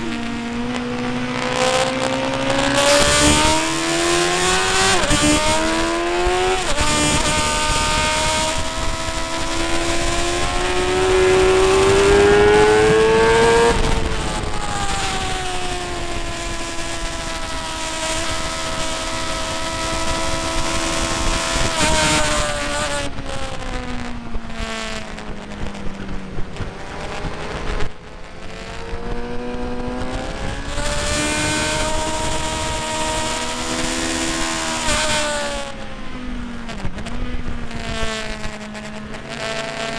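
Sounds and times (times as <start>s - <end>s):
wind rush: 0.0s - 38.5s
motorcycle engine at high revs: 0.0s - 39.9s.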